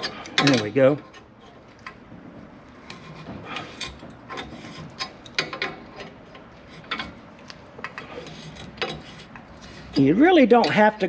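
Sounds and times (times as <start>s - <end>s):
scraping creaks: 0.0s - 10.8s.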